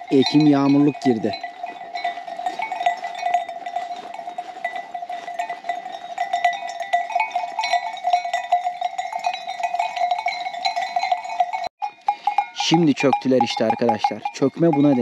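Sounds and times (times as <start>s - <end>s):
goat bells clanking and jingling: 0.0s - 15.0s.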